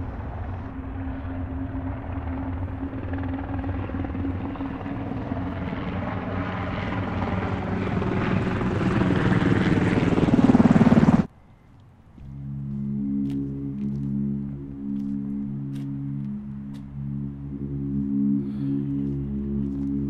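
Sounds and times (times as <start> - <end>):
helicopter rotors pulsing: 0.0 - 11.3, 11.9 - 20.0.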